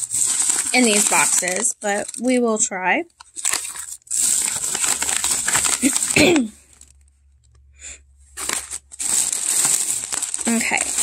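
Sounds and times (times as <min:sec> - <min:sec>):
plastic bag crinkling: 0:00.0 - 0:07.1, 0:08.3 - 0:11.0.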